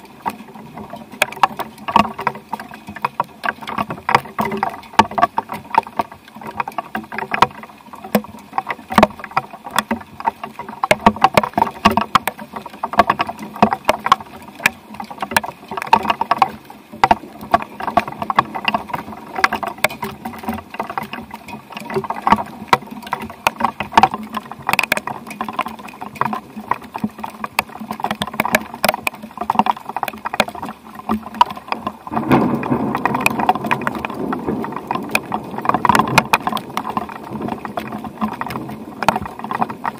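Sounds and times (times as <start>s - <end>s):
rain drops tapping: 0.0s - 39.9s
steady rain hiss: 0.0s - 39.9s.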